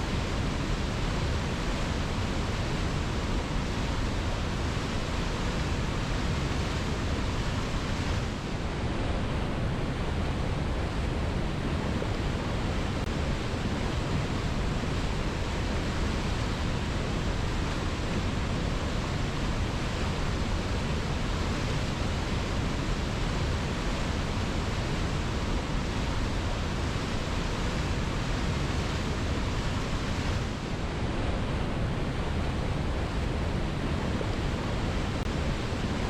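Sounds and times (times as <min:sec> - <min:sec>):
waterfall roar: 0:00.0 - 0:36.0.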